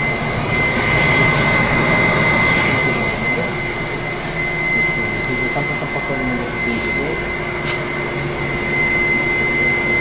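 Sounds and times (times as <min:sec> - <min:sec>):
electric dryer fan blowing: 0:00.0 - 0:10.0
high steady whine: 0:00.0 - 0:10.0.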